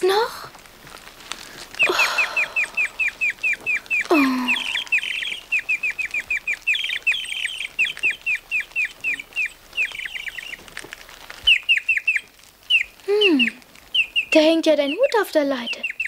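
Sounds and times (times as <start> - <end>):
small bird cheeping: 1.7 - 10.7, 11.4 - 16.0.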